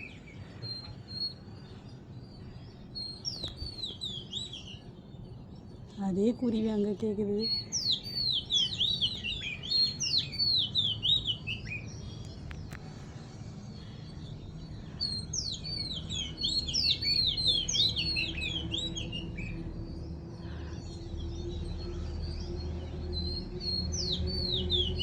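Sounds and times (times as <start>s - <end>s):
small songbird chirping: 0.0s - 25.0s.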